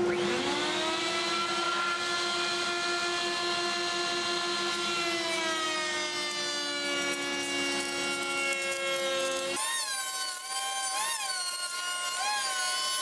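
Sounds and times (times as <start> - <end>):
router high whine: 0.0 - 13.0.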